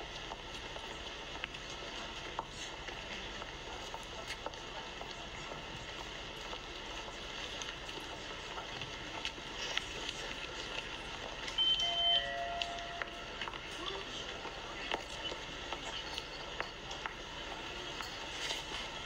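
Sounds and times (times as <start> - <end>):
street background hiss: 0.0 - 19.0.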